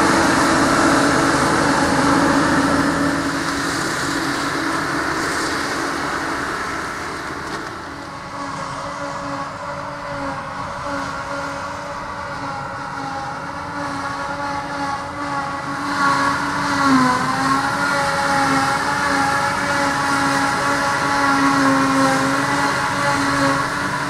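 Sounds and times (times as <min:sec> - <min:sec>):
forage harvester machine drone: 0:00.0 - 0:24.0.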